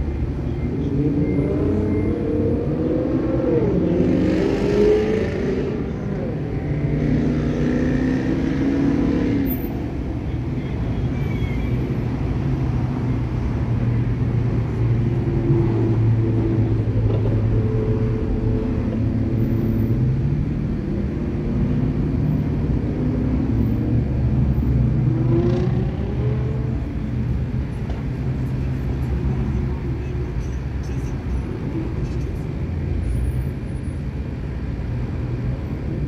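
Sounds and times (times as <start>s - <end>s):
passing cars engines rumbling: 0.0s - 36.0s.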